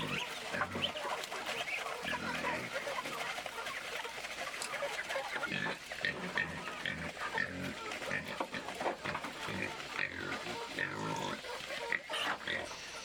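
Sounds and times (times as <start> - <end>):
pigs grunting: 0.0 - 3.3, 5.2 - 13.0.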